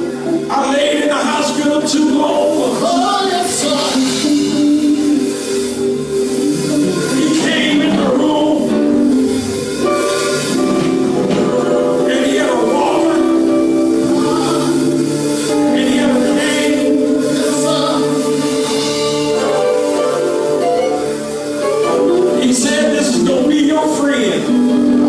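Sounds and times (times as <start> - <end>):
sustained accompanying chords: 0.0 - 25.0
voices singing: 0.0 - 25.0.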